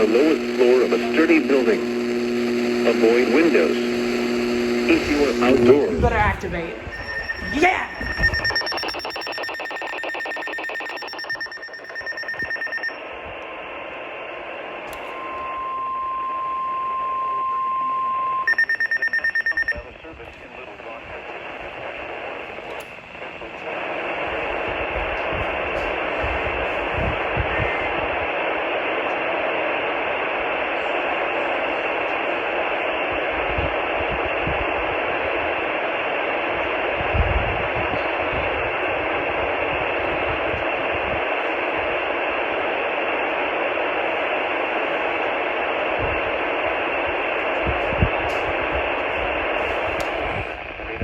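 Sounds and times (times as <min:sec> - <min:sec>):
radio static hiss: 0:00.0 - 0:51.0.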